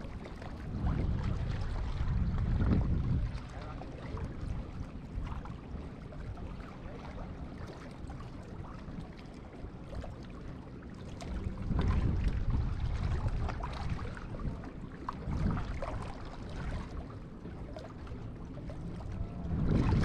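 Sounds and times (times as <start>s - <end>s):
water lapping against rocks: 0.0s - 20.0s
wind buffeting microphone: 0.0s - 20.0s.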